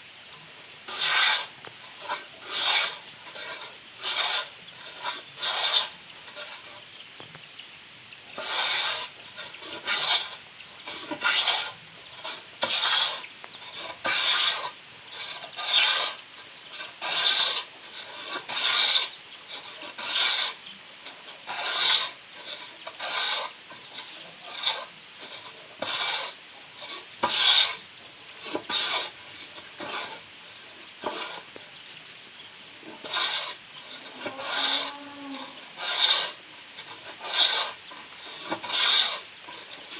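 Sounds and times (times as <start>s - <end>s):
hand plane shaving wood: 0.9s - 6.8s, 8.4s - 31.6s, 32.9s - 39.9s.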